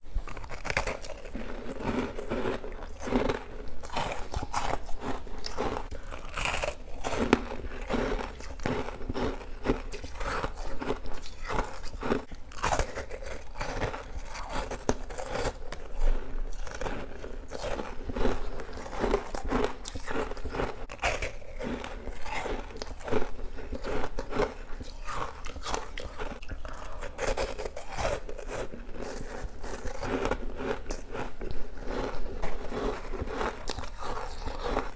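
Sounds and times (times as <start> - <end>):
chewing: 0.2 - 34.9
crisp crunching bites: 0.2 - 34.9.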